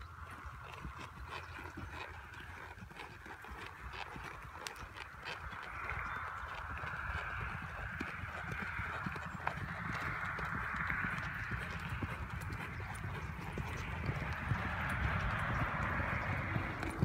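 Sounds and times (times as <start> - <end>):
horse hoofbeats: 0.0 - 17.0.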